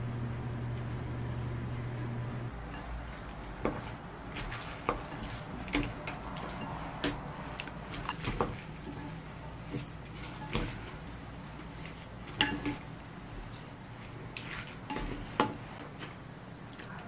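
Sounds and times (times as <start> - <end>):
wet squishing of noodles: 2.6 - 17.0.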